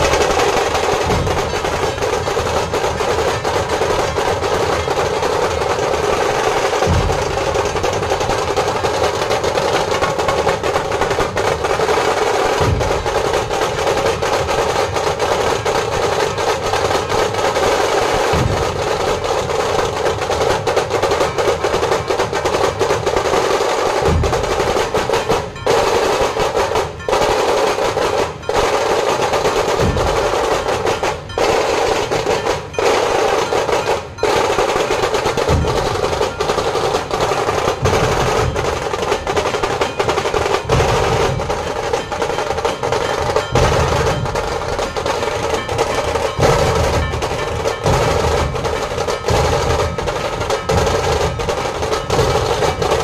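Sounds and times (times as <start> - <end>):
rapid drum stick roll: 0.0 - 53.0.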